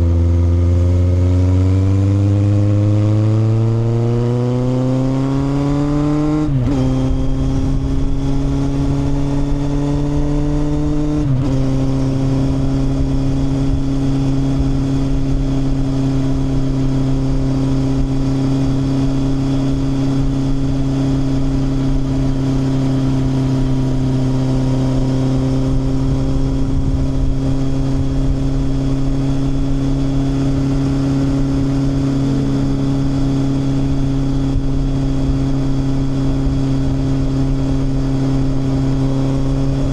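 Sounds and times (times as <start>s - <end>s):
motorcycle engine pulling away: 0.1s - 39.9s.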